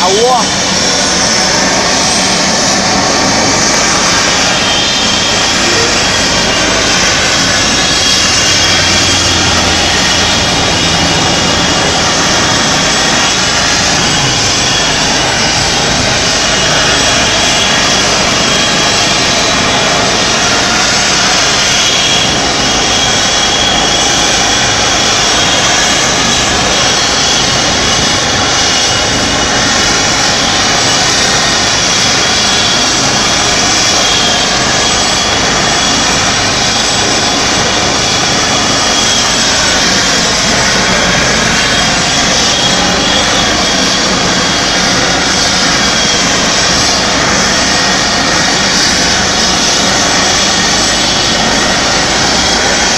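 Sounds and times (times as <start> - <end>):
helicopter turbine and rotor: 0.0 - 52.9.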